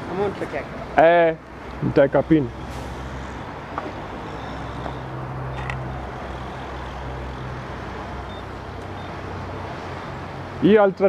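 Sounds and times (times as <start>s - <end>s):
vehicle engines idling and passing: 0.0s - 11.0s.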